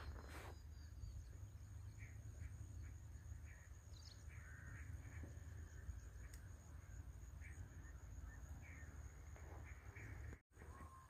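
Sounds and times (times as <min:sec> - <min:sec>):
faint bird calls: 0:00.0 - 0:11.0.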